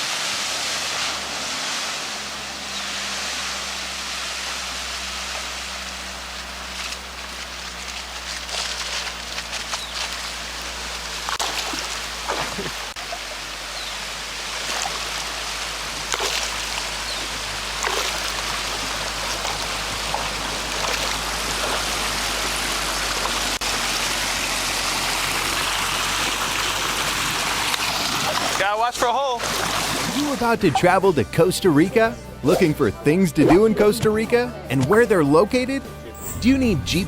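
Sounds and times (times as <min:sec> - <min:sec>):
river water rushing and splashing: 0:00.0 - 0:31.2
low engine hum: 0:00.0 - 0:37.0.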